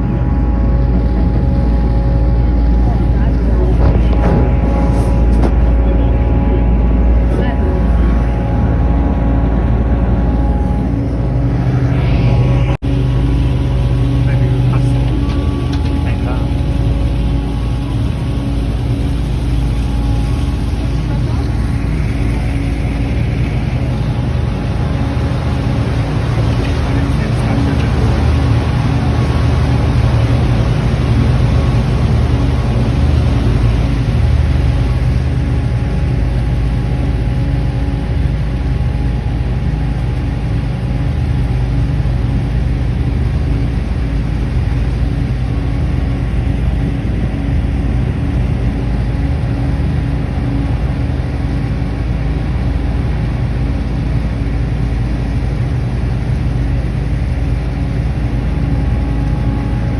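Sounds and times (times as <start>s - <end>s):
boat engine humming: 0.0s - 59.9s.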